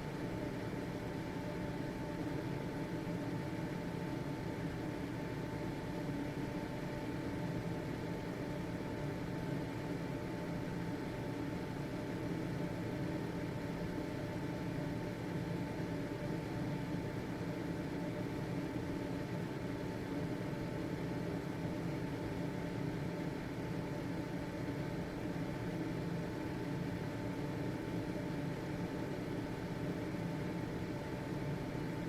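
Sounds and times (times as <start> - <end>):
exhaust fan whirring hum: 0.0 - 32.0.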